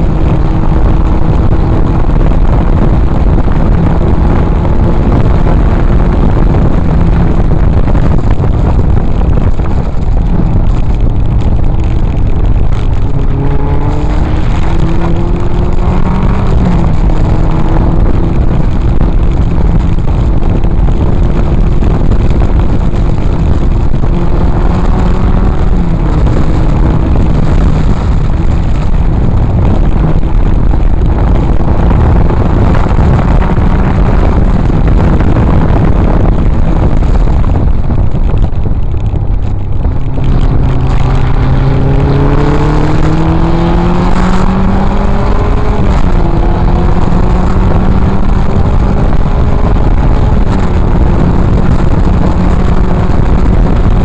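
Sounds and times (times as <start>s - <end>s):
gear change: 0.0s - 54.0s
heavy wind noise: 0.0s - 54.0s
race car engine revving: 0.0s - 54.0s.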